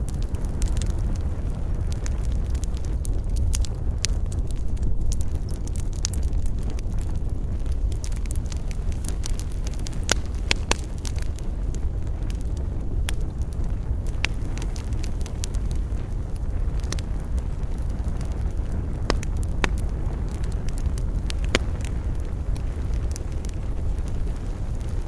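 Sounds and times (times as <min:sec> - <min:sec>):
campfire wood crackling: 0:00.0 - 0:25.0
low fire rumble: 0:00.0 - 0:25.0.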